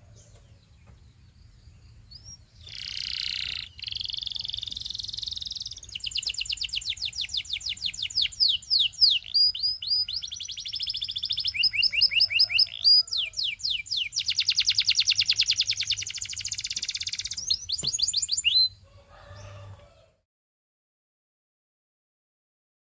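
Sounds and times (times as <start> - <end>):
canary singing trills: 0.0 - 19.7.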